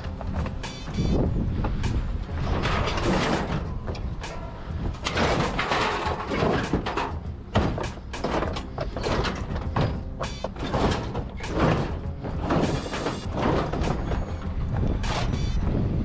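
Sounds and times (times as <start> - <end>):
steady low rumble: 0.0 - 16.0
scrap metal clanking and scraping: 1.8 - 15.6.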